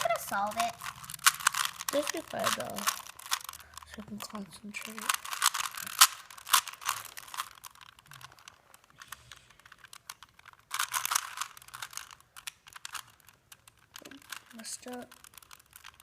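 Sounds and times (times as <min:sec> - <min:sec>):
puzzle cube layers clicking: 0:00.0 - 0:16.0.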